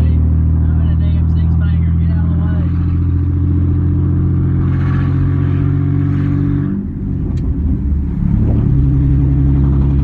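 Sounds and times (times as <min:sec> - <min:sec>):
pickup engine droning: 0:00.0 - 0:10.0.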